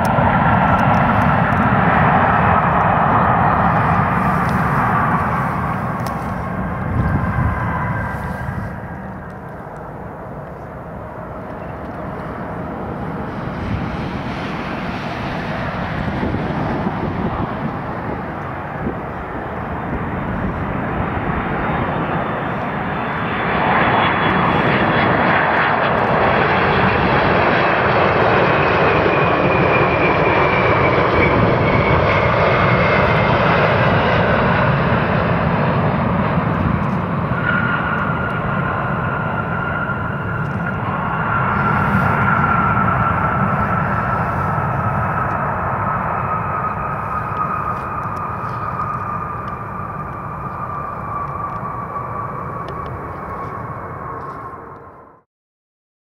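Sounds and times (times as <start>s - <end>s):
jet engines with fan whine: 0.0s - 55.3s.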